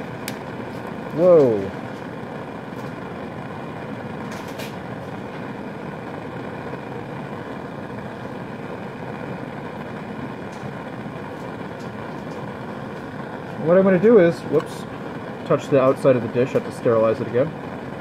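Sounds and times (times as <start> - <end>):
gas flame rushing: 0.0 - 18.0.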